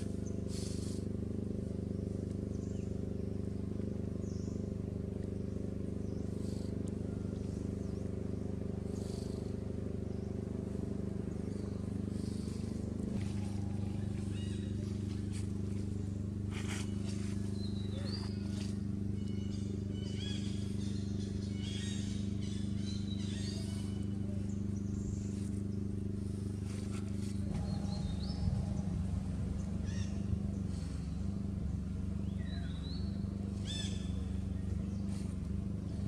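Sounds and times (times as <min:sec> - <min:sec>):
low motor hum: 0:00.0 - 0:36.0.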